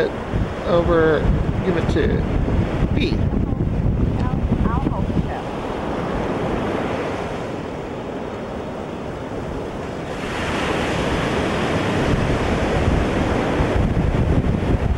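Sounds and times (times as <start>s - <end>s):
ocean surf washing ashore: 0.0s - 14.9s
wind buffeting microphone: 0.0s - 14.9s.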